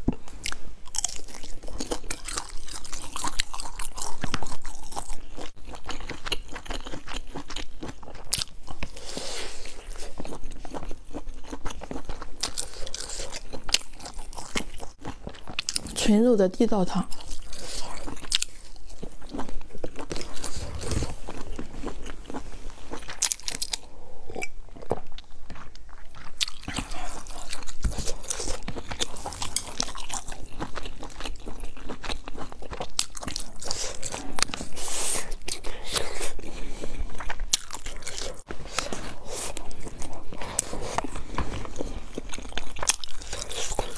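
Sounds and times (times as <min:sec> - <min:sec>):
person chewing: 0:00.0 - 0:16.0, 0:17.1 - 0:43.9.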